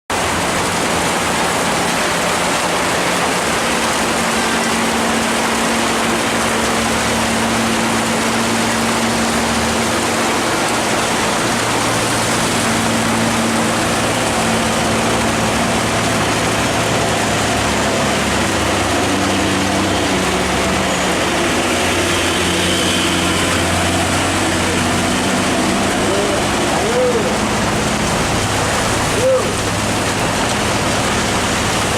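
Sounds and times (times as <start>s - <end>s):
diesel engine labouring: 0.1s - 31.9s
heavy rain hiss: 0.1s - 31.9s.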